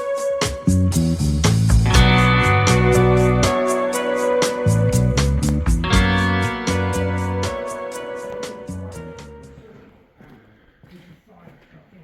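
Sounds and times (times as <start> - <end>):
guitar-led music with beat: 0.0 - 9.7.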